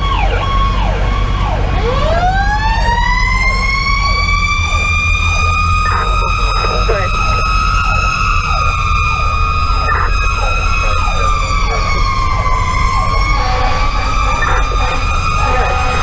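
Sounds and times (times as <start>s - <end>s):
diesel engine low rumble: 0.0s - 16.0s
fast falling siren sweeps: 0.0s - 16.0s
steady high siren: 0.0s - 16.0s.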